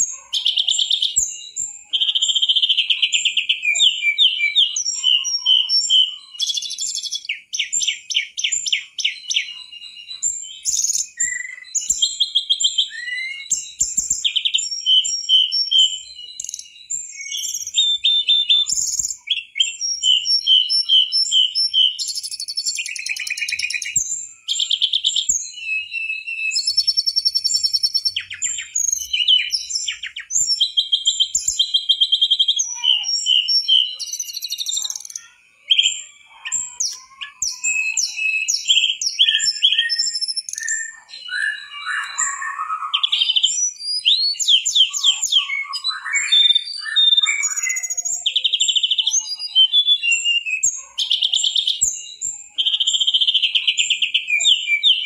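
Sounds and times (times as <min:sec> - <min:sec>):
bird singing trills and whistles: 0:00.0 - 0:55.0.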